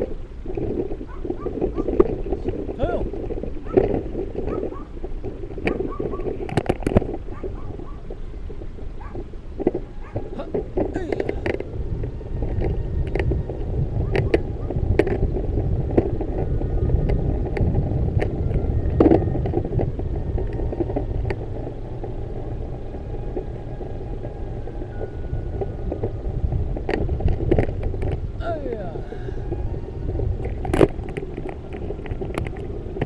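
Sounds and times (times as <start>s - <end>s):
bicycle clicks and rattles: 0.0s - 28.4s, 29.6s - 33.0s
wind and road noise on microphone: 0.0s - 33.0s.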